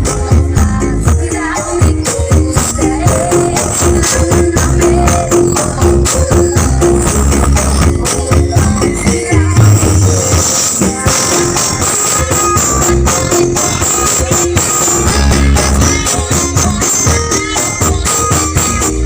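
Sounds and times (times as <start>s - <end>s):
dance music with heavy bass: 0.0s - 19.0s
jingling tambourine-like percussion: 0.0s - 19.0s.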